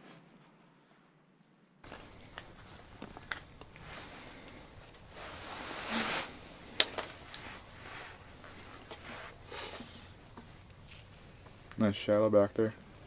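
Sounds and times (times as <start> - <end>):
rustling and handling noise: 0.0 - 13.0.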